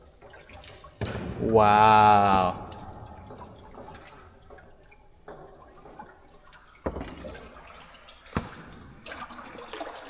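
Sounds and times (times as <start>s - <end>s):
water dripping in a cave: 0.0s - 10.0s.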